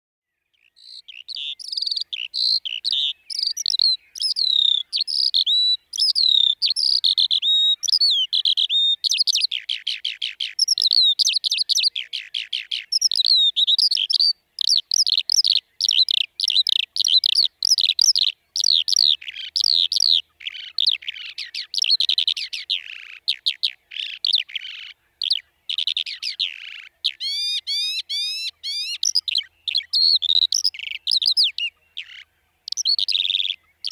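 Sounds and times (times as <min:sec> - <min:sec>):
skylark singing: 0:00.3 - 0:33.9.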